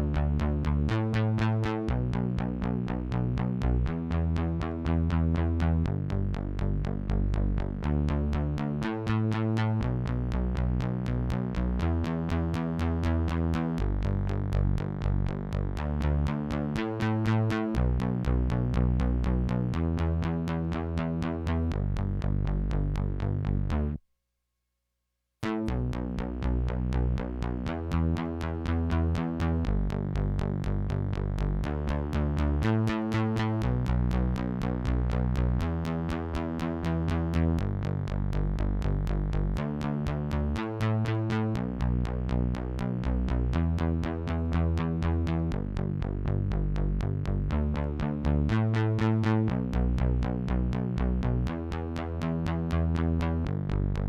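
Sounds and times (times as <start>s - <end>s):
synth bass line: 0.0s - 24.0s, 25.4s - 54.0s.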